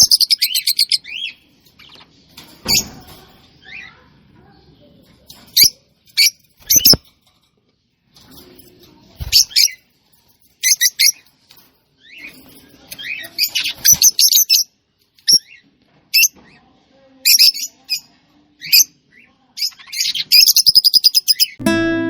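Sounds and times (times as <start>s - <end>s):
small bird chirping: 0.0s - 7.1s, 8.6s - 16.4s, 17.2s - 21.6s.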